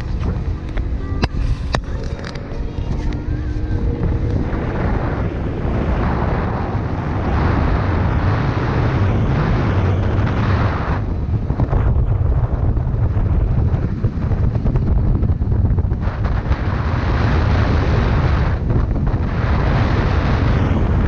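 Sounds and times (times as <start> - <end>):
speedboat engine drone: 0.0 - 21.0
wind buffeting microphone: 0.0 - 21.0.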